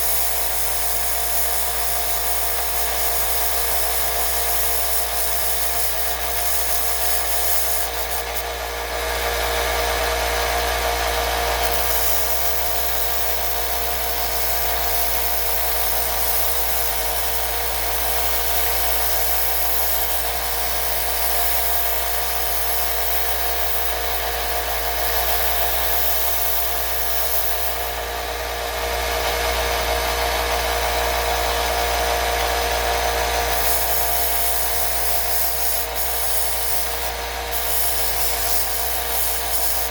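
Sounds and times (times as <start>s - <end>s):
power sander grinding metal: 0.0s - 39.9s.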